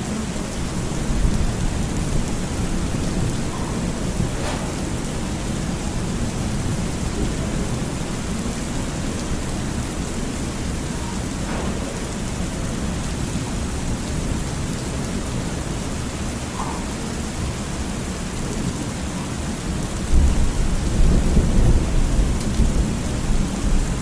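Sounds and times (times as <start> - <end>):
steady rain: 0.0 - 24.0
low rumble of thunder: 0.3 - 24.0.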